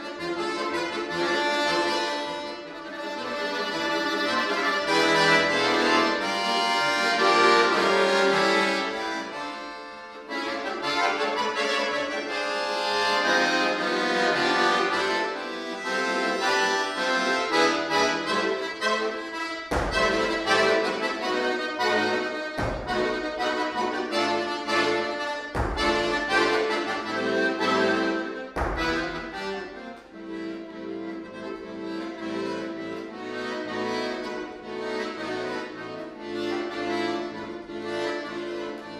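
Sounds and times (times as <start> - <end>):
button accordion playing: 0.0 - 38.9
sharp accented accordion strokes: 0.0 - 38.9.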